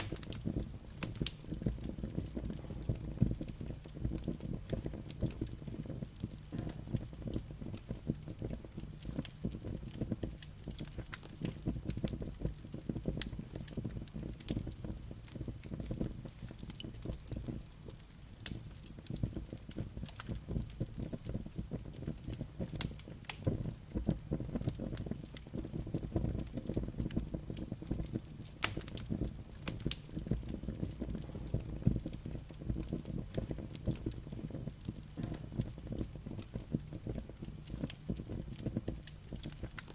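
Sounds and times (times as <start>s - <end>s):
burning logs crackling and popping: 0.0s - 39.9s
low rumble of flames: 0.0s - 39.9s.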